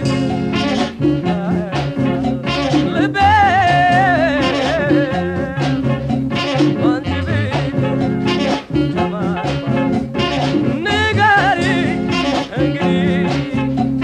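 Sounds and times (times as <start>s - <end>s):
popular band music: 0.0s - 14.0s.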